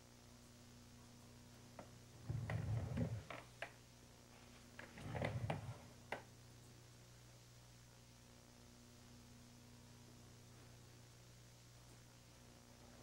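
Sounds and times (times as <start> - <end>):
crackling clicks and low rumble: 0.0 - 13.0
low hum and faint hiss: 0.0 - 13.0.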